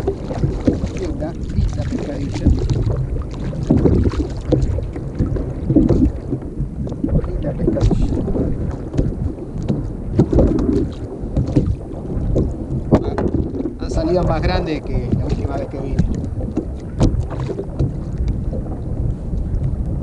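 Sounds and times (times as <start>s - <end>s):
water slapping kayak hull: 0.0s - 20.0s.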